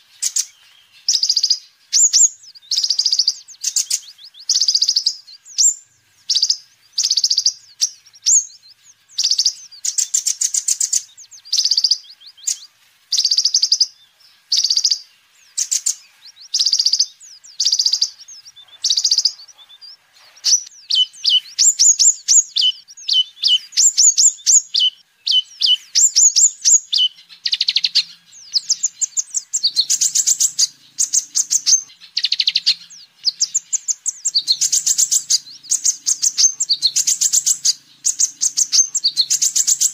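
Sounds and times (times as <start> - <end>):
sunbird singing trilled phrases: 0.0 - 39.9.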